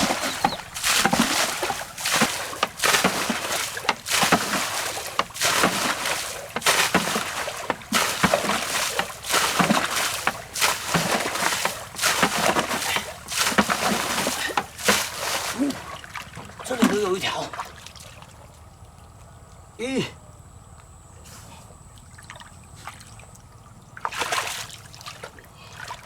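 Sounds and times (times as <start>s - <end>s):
water splashing from bailing: 0.0s - 18.9s, 21.9s - 26.0s.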